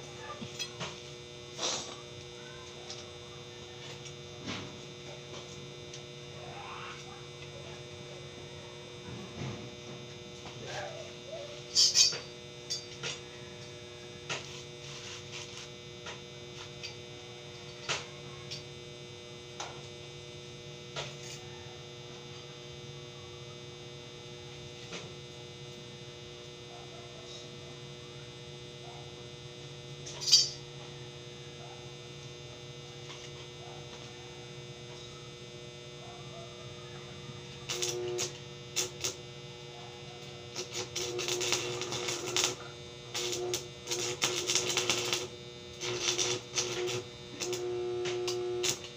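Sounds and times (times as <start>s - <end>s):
welding arc crackling: 0.0s - 21.5s, 28.6s - 36.0s, 37.2s - 48.9s
welding machine humming: 0.0s - 48.9s.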